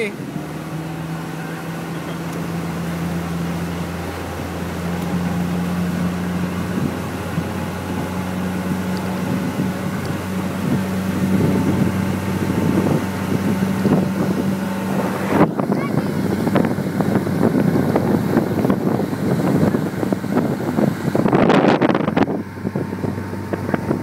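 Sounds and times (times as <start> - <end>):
rushing water: 0.0 - 24.0
speedboat engine running: 0.0 - 24.0
wind noise: 2.6 - 24.0.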